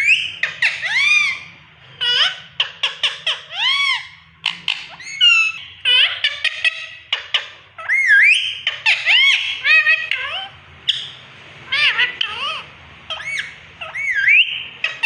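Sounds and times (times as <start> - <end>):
parrot whistling and squawking: 0.0 - 15.0.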